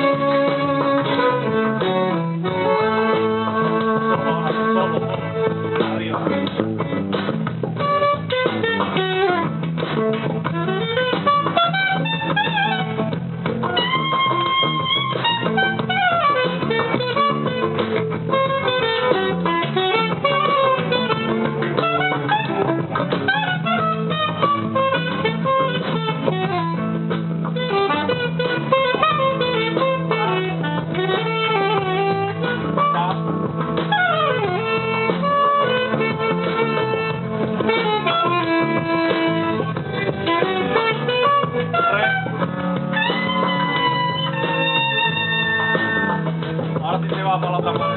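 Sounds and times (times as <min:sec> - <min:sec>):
guitar melody: 0:00.0 - 0:47.9
low band accompaniment: 0:00.0 - 0:47.9.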